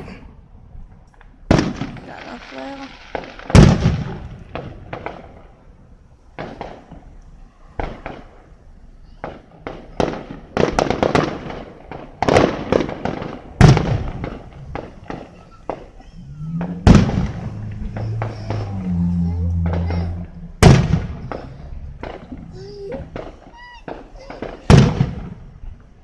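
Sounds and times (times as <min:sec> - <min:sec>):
fireworks exploding: 0:01.4 - 0:05.7, 0:06.3 - 0:08.6, 0:09.2 - 0:26.0.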